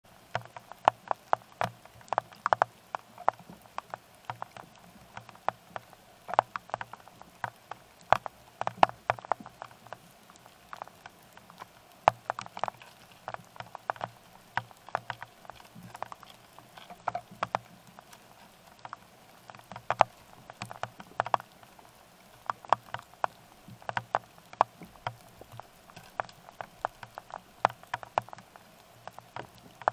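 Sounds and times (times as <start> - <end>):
raindrops tapping on plastic housing: 0.3 - 29.9.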